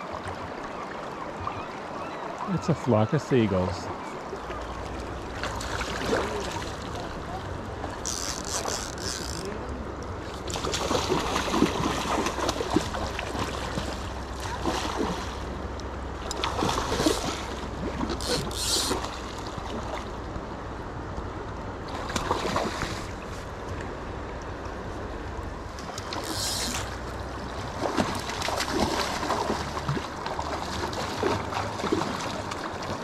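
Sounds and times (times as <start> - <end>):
water splashes: 0.0 - 20.2, 21.8 - 24.8, 25.5 - 33.0
river water rushing: 0.0 - 33.0.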